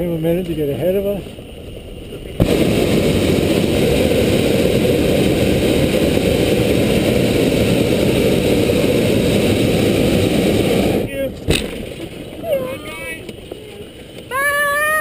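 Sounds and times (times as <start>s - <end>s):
propane burner blast: 0.0s - 13.2s.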